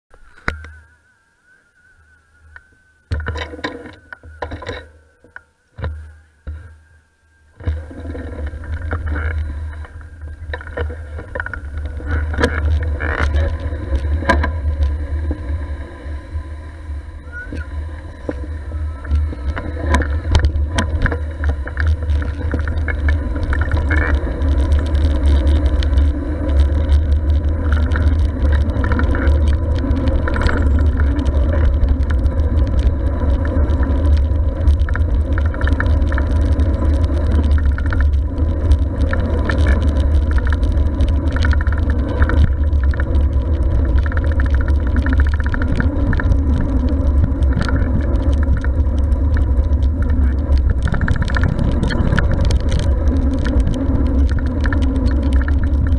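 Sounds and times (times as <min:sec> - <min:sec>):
wind rumbling on microphone: 0:00.1 - 0:55.9
bike clicks and rattles: 0:02.5 - 0:06.8, 0:07.6 - 0:55.9.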